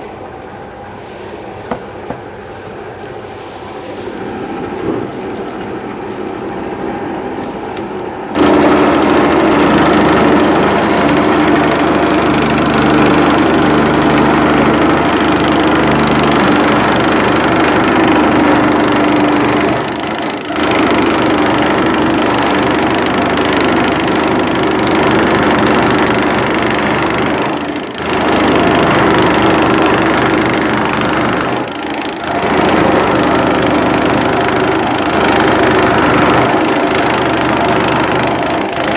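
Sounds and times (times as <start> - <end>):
grass chopper machine running: 0.0 - 38.9.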